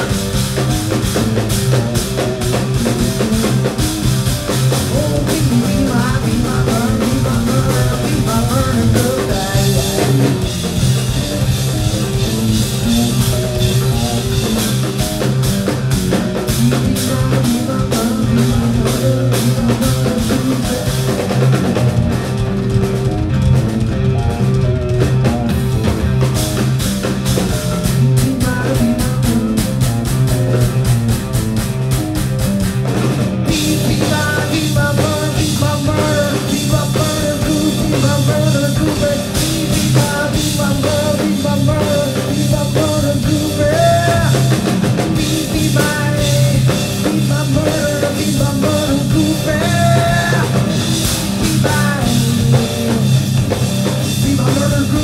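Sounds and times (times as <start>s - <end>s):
bass guitar: 0.0s - 55.0s
electric guitar: 0.0s - 55.0s
fast drumming on drum kit: 0.0s - 55.0s.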